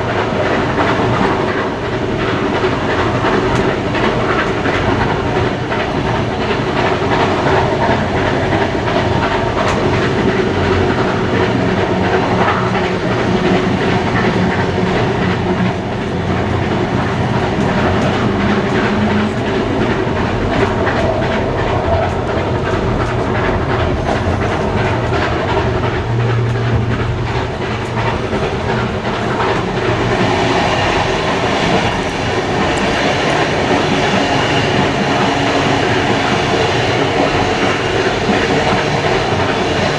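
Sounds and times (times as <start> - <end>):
steam train rumbling: 0.0 - 39.9
wheels clicking over rail joints: 0.0 - 39.9.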